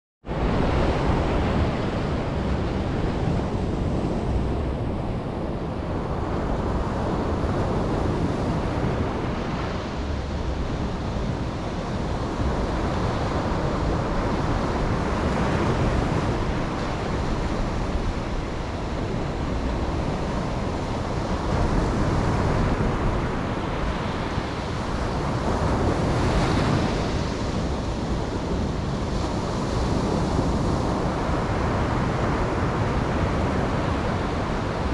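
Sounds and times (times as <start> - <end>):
ocean waves breaking: 0.3 - 34.9
wind buffeting microphone: 0.3 - 34.9.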